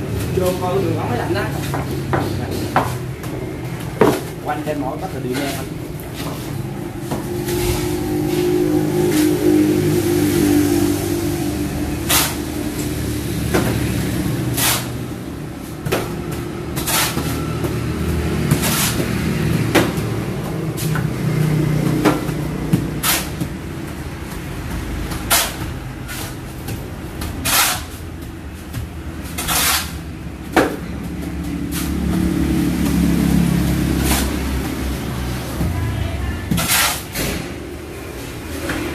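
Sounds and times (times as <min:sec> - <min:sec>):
sharp knocks and scrapes: 0:00.0 - 0:38.9.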